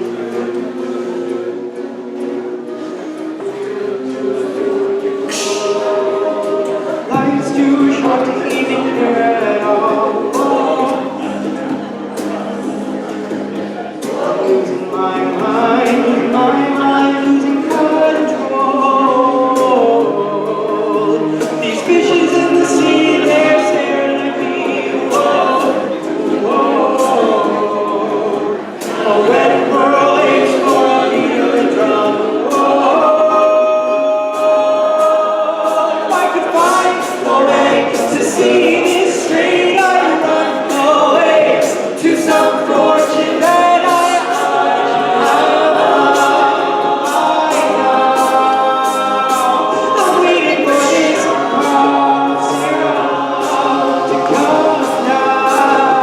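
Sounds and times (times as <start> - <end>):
a cappella group singing: 0.0 - 56.0
bass voice: 0.0 - 56.0
vocal percussion beat: 0.0 - 56.0.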